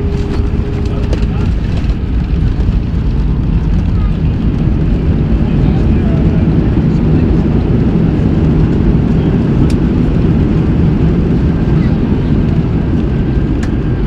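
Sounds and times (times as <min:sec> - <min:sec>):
aircraft landing rumble: 0:00.0 - 0:14.0.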